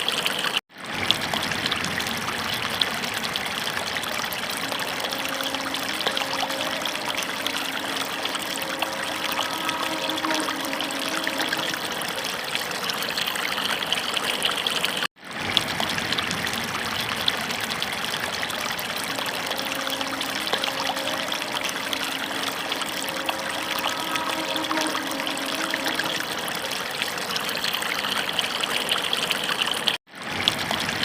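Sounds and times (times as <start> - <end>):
water running and splashing: 0.0 - 31.0.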